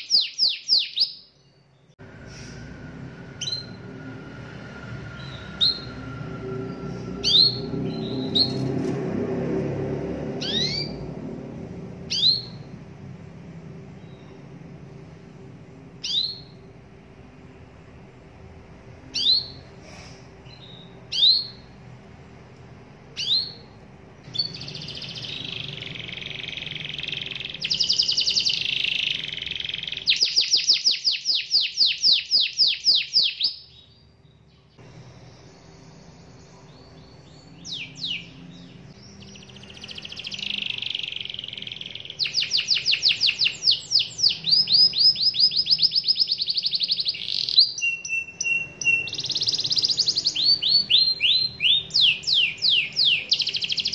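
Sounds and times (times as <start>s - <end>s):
canary singing: 0.0s - 2.0s, 3.0s - 9.0s, 10.3s - 15.0s, 15.9s - 16.8s, 18.9s - 19.8s, 20.4s - 21.9s, 23.0s - 53.9s.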